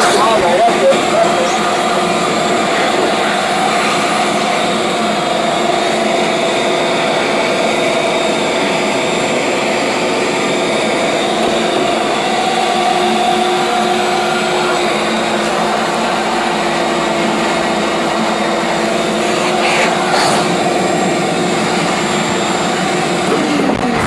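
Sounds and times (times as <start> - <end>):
vacuum motor whine: 0.0 - 24.0.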